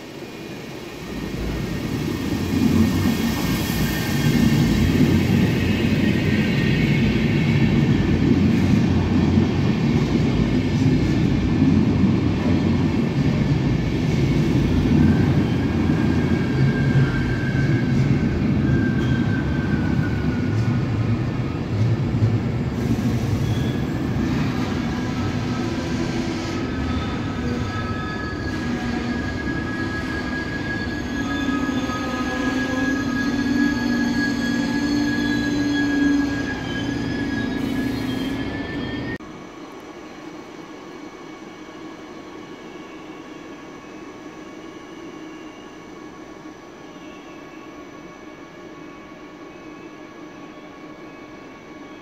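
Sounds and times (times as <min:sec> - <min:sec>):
train wheel squeal: 0:00.1 - 0:11.4, 0:12.3 - 0:39.2, 0:40.2 - 0:52.0.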